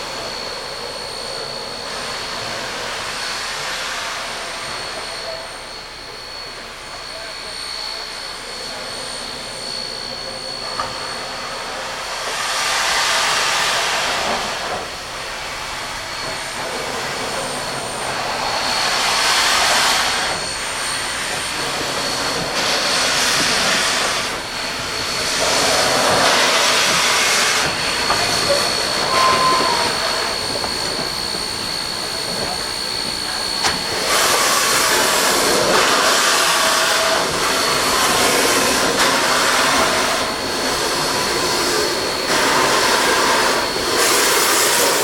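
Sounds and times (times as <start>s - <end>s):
steam hissing: 0.0s - 45.0s.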